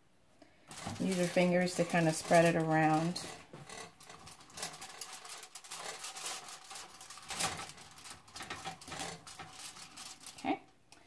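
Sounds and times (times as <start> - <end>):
aluminium foil crinkling: 0.4 - 10.9.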